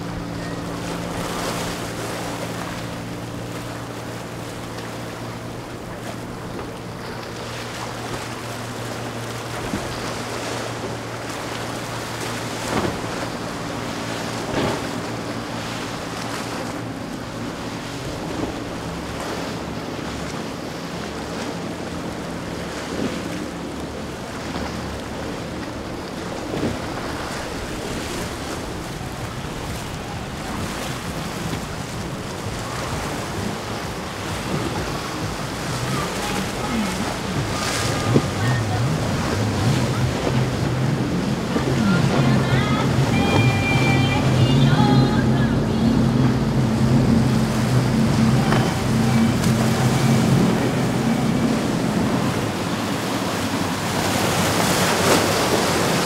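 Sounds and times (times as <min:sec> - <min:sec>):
boat crashing through wave: 0:00.0 - 0:56.0
hull splashing on waves: 0:00.0 - 0:56.0
outboard engines droning: 0:00.0 - 0:56.0
surf: 0:00.0 - 0:56.0.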